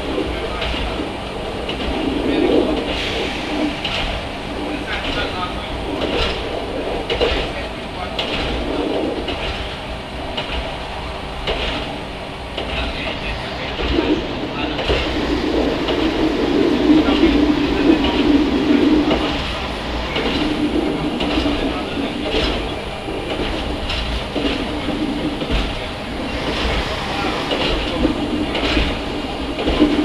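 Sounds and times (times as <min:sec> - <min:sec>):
railcar engine drone: 0:00.0 - 0:30.0
wheels clicking over rails: 0:00.0 - 0:30.0.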